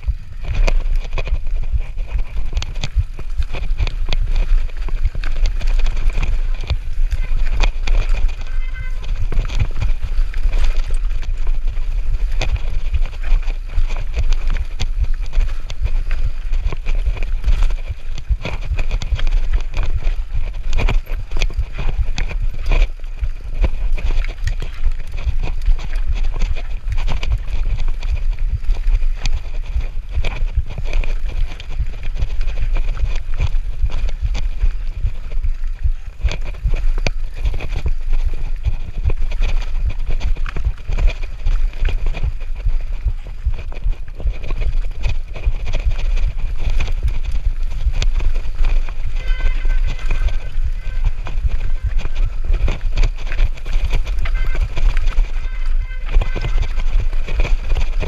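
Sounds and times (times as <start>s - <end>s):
bike rattling over bumps: 0.0s - 58.0s
bike tyres on dirt trail: 0.0s - 58.0s
wind rumble on microphone: 0.0s - 58.0s.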